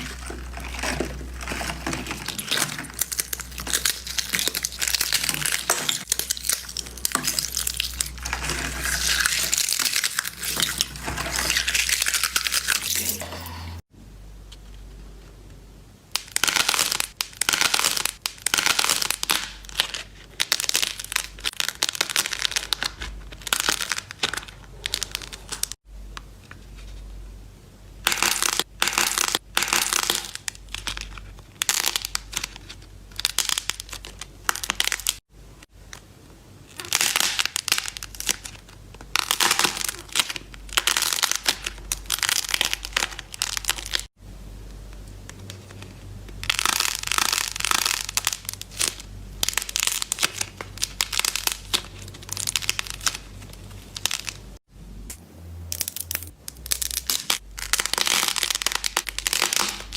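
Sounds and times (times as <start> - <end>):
slime crackling and popping: 0.0 - 13.0, 16.1 - 25.8, 28.0 - 35.2, 36.7 - 44.1, 45.3 - 54.6, 55.7 - 59.9.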